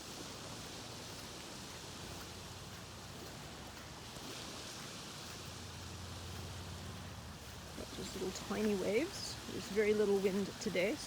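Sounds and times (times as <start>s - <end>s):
small waves lapping on beach: 0.0s - 11.0s.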